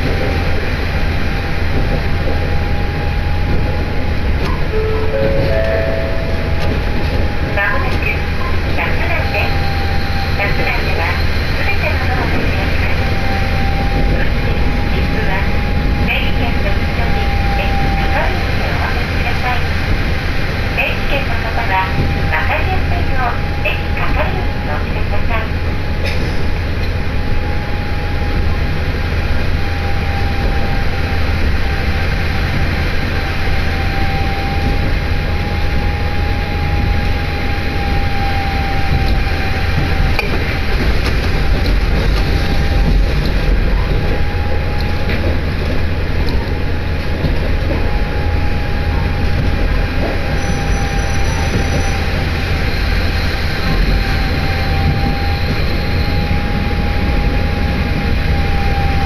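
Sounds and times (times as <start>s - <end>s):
railcar engine and wheels running: 0.0s - 59.0s.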